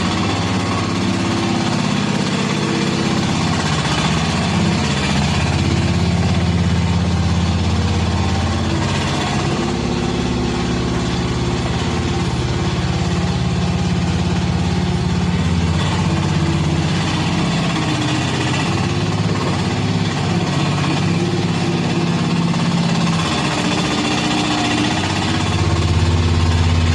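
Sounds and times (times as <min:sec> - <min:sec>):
excavator engine running: 0:00.0 - 0:26.9.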